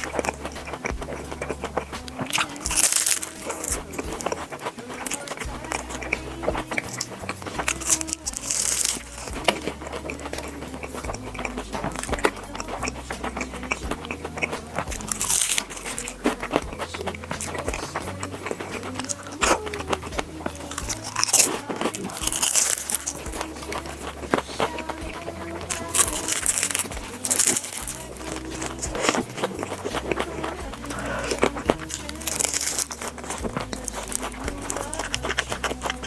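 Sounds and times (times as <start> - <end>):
crunchy chewing of food: 0.0 - 36.0
soft background music: 0.0 - 36.0.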